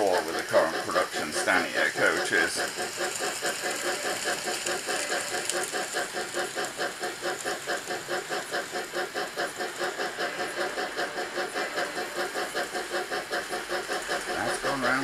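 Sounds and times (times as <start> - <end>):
model steam train running: 0.0 - 15.0.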